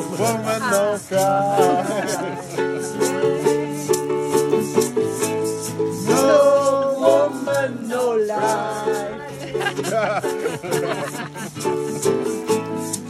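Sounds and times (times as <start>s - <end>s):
person singing: 0.0s - 5.2s, 5.8s - 11.1s
ukulele strumming chords: 0.0s - 13.0s.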